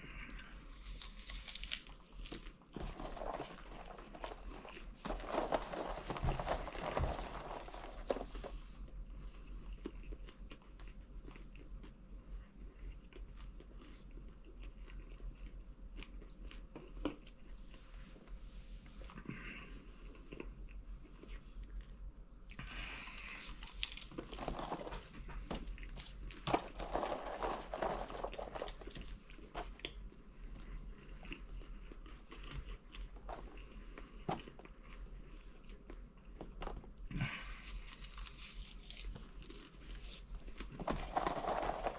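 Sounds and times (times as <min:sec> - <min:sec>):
person chewing popcorn: 0:00.0 - 0:17.6, 0:19.1 - 0:41.9.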